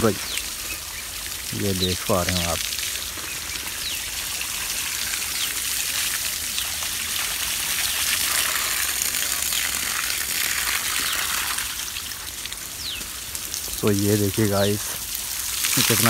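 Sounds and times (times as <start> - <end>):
water gushing from a hose: 0.0 - 16.0
water splashing through leaves: 0.0 - 16.0.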